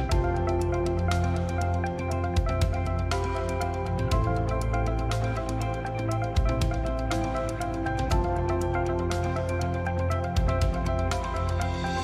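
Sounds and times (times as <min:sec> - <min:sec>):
background music with heavy bass: 0:00.0 - 0:12.0.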